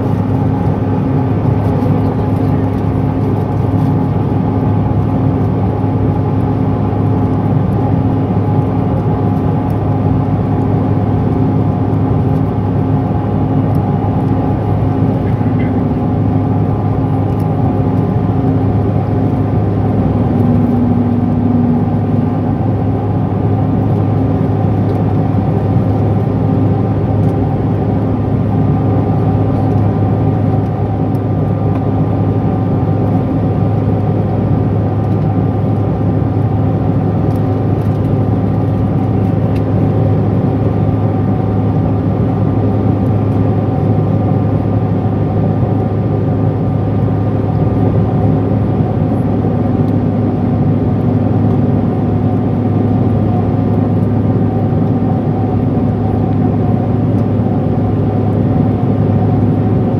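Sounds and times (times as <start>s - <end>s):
aircraft cabin drone: 0.0s - 59.9s.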